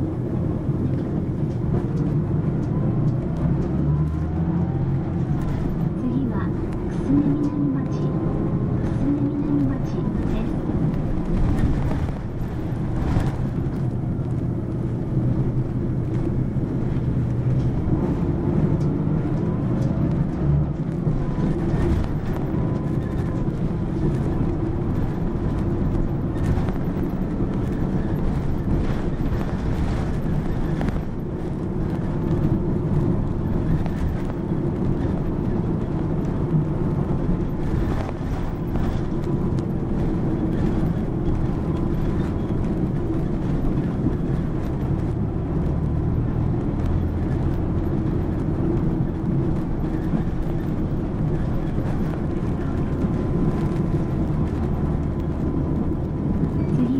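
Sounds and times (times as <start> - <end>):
bus diesel engine running: 0.0 - 56.9
road noise rumble: 0.0 - 56.9.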